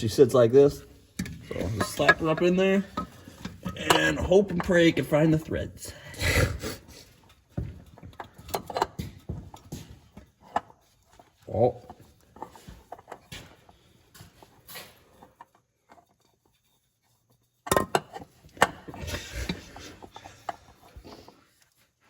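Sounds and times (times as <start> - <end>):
oil filter scraping and clicking: 1.1 - 5.6, 7.1 - 13.6, 14.2 - 21.9.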